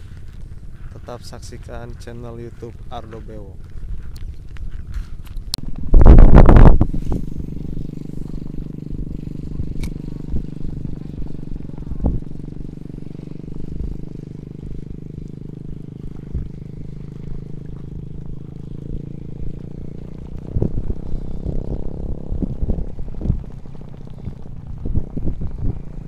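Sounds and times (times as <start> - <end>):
steady engine-like drone: 0.0 - 26.0.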